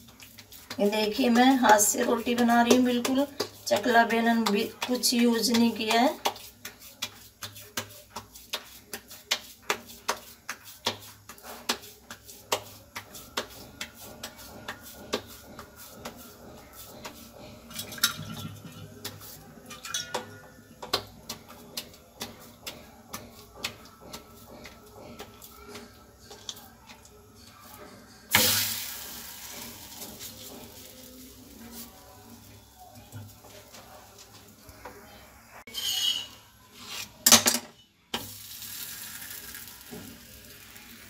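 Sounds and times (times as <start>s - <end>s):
hands slapping dough: 0.0s - 35.0s.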